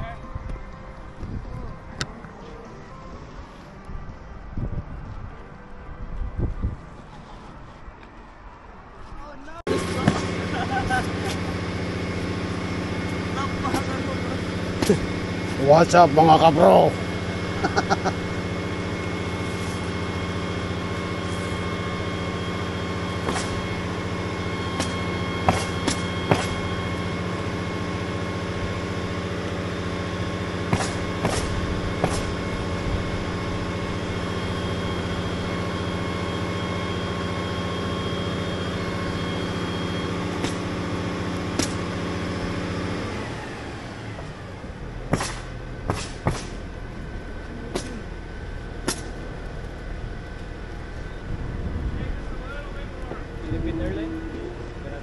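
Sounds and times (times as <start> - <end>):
crane engine running: 0.0 - 55.0.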